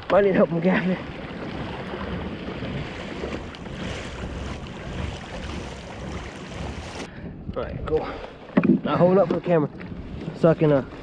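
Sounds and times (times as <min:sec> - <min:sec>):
water washing around kayak: 0:00.0 - 0:07.2, 0:07.8 - 0:11.0
wind noise on microphone: 0:01.0 - 0:11.0.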